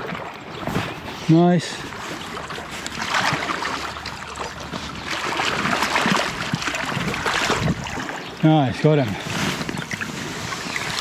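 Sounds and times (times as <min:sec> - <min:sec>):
running river: 0:00.0 - 0:11.0
fish splashing in water: 0:01.8 - 0:11.0.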